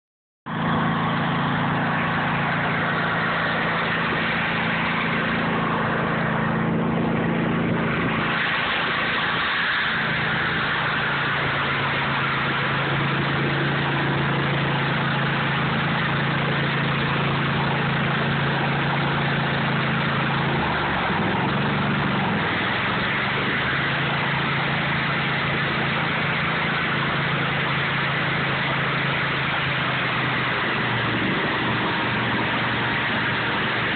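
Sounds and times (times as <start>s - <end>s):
tractor engine running: 0.5s - 33.9s
snowblower throwing snow hiss: 0.6s - 33.9s.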